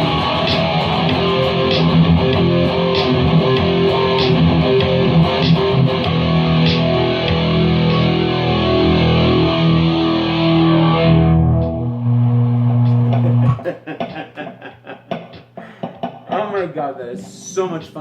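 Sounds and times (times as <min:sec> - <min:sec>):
distorted electric guitar chords: 0:00.0 - 0:14.4, 0:15.0 - 0:16.3.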